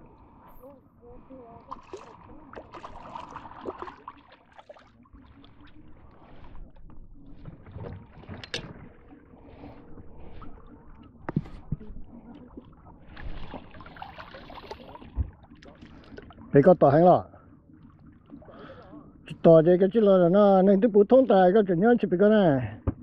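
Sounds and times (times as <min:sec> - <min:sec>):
water sloshing against boat: 0:00.0 - 0:23.0.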